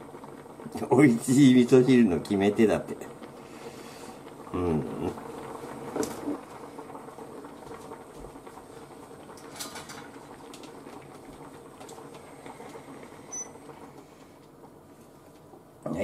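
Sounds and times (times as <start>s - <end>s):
soup simmering and bubbling: 0.0s - 15.8s.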